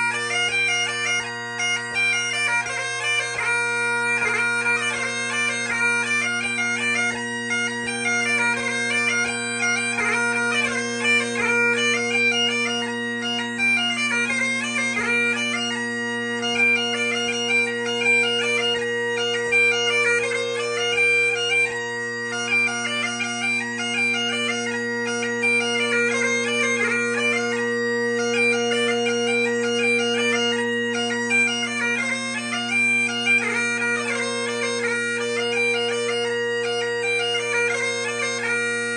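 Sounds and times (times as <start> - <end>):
bagpipe chanter melody: 0.0 - 38.9
bagpipe drones: 0.0 - 38.9.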